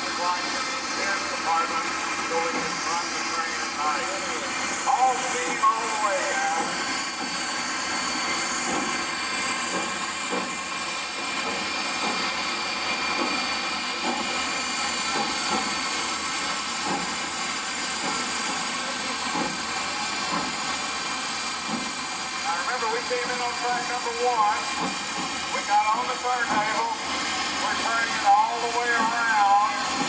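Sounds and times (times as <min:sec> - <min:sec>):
steam hissing: 0:00.0 - 0:30.0.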